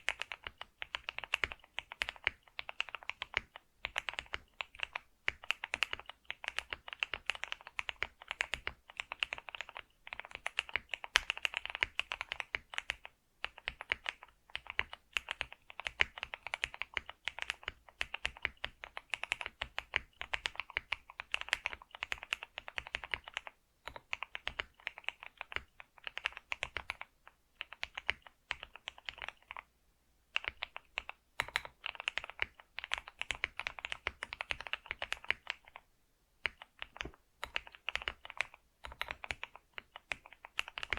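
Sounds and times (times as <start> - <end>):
computer keyboard typing: 0.0 - 29.7, 30.3 - 40.9.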